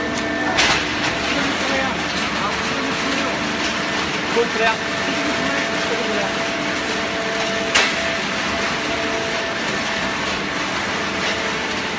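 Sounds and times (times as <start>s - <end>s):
hydraulic unit humming: 0.0s - 11.9s.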